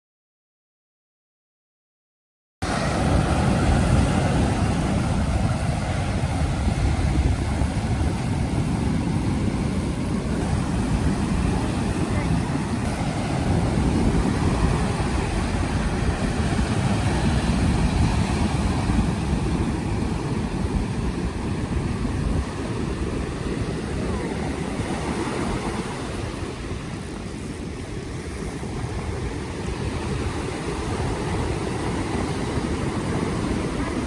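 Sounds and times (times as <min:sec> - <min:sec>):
ocean surf breaking on beach: 0:02.6 - 0:34.0
wind rumble on microphone: 0:02.7 - 0:34.0.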